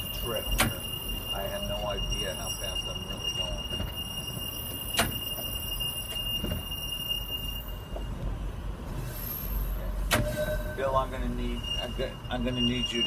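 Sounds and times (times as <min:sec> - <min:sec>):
high-pitched wheel squeal: 0:00.0 - 0:13.0
trolley car rumbling on rails: 0:00.0 - 0:13.0.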